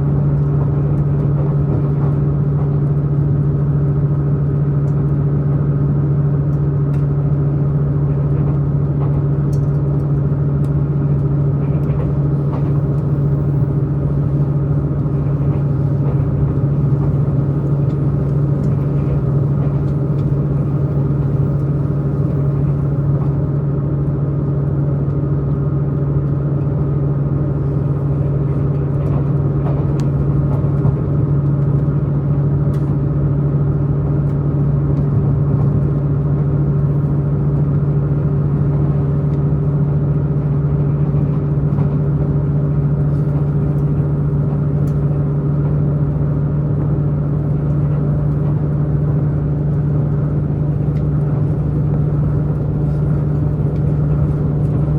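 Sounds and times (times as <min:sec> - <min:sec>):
train diesel engine running: 0:00.0 - 0:54.9.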